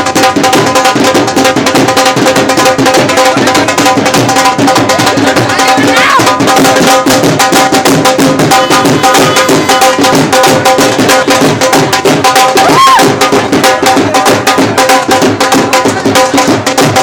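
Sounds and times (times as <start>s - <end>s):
dhol drums playing fast beat: 0.0s - 17.0s.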